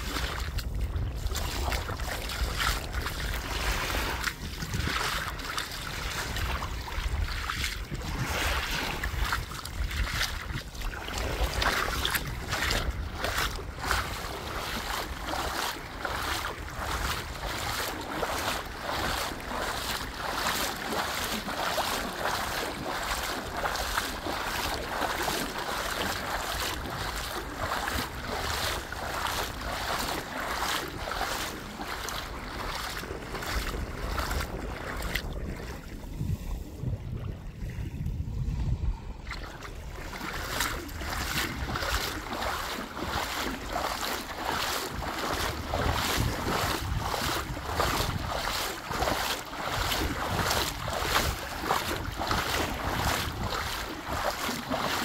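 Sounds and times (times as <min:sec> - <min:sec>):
wind buffeting microphone: 0:00.0 - 0:54.7
sea waves washing ashore: 0:00.0 - 0:55.0.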